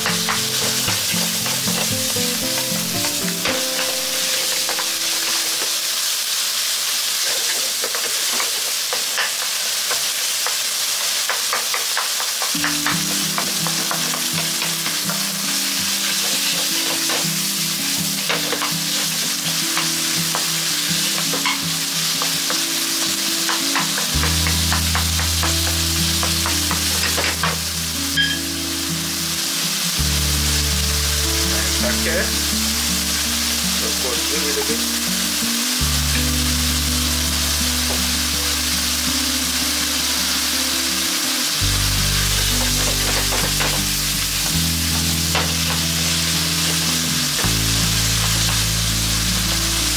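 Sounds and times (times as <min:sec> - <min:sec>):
meat sizzling in a skillet: 0:00.0 - 0:49.9.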